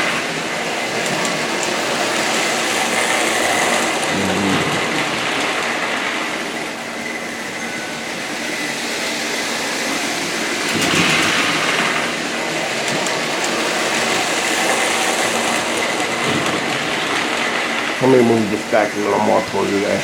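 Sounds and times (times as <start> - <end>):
model train rattling on track: 0.0 - 20.0.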